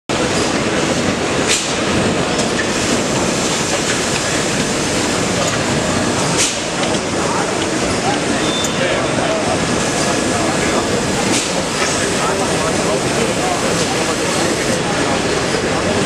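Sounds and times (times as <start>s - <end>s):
busy exhibition hall din: 0.1s - 16.0s
moulding machines running: 0.1s - 16.0s.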